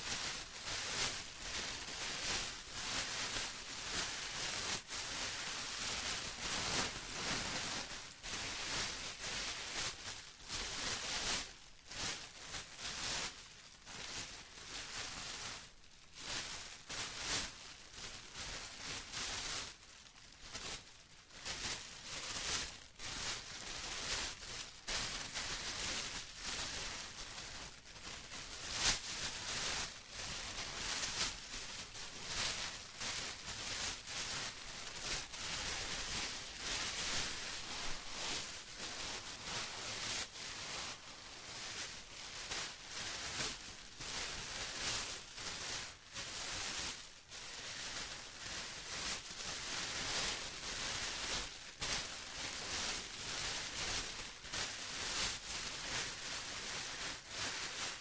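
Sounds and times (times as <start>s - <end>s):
plastic rustling and crinkling: 0.0s - 58.0s.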